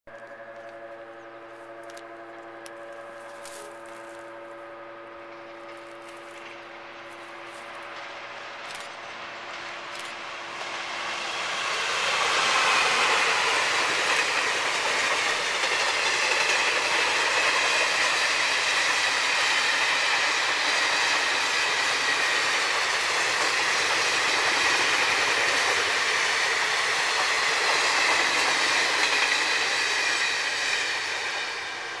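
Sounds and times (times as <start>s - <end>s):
train wheels rolling on rails: 0.1s - 32.0s.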